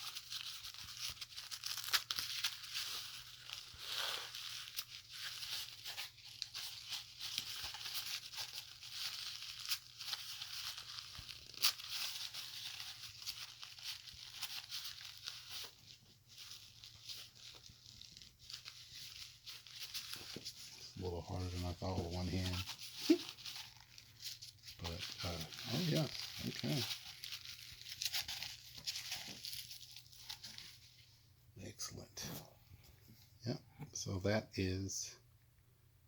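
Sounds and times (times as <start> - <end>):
packaging being torn and crinkled: 0.0 - 30.9.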